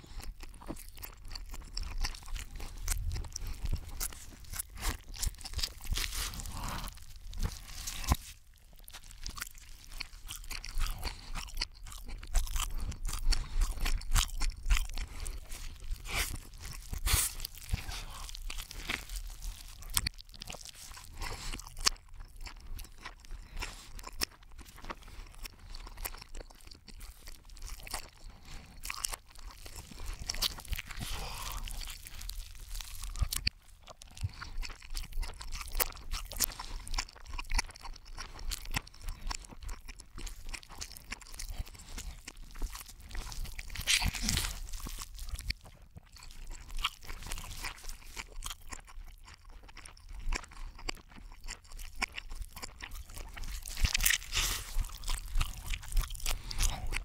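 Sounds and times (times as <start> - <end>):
reversed chewing crunches and clicks: 0.0 - 57.0.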